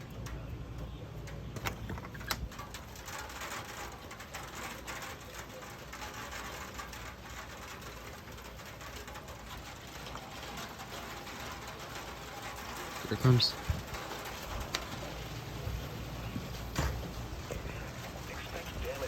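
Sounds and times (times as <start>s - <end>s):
rain pattering on hard surface: 0.0s - 19.0s
wind rumbling: 0.0s - 19.0s.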